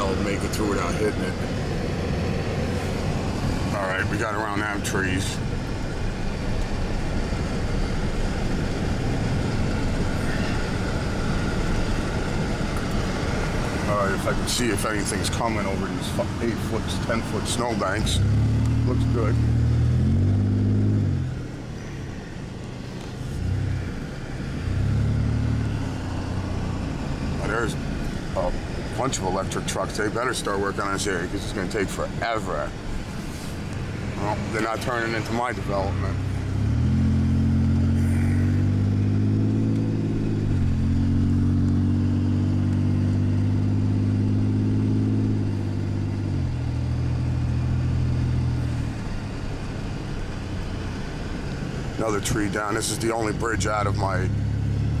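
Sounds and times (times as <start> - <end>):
road and tyre noise: 0.0 - 55.0
truck engine running: 0.0 - 55.0.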